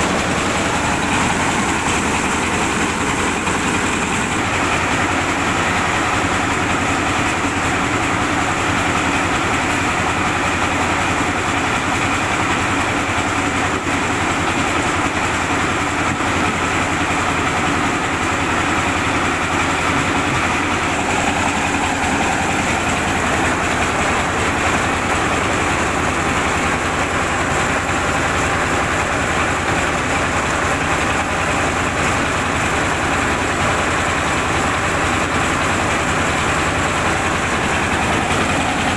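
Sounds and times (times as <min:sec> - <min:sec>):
rice mill engine running: 0:00.0 - 0:38.9.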